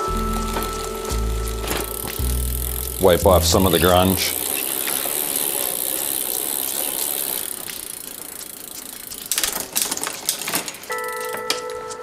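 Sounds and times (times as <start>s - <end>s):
bicycle chain hissing: 0.0s - 11.0s.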